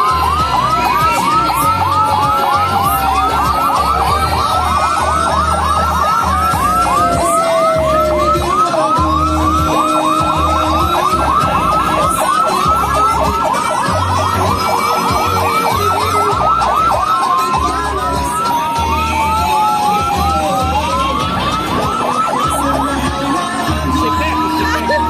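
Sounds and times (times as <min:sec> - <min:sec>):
siren yelping: 0:00.0 - 0:25.0
tone gliding downward: 0:00.0 - 0:25.0.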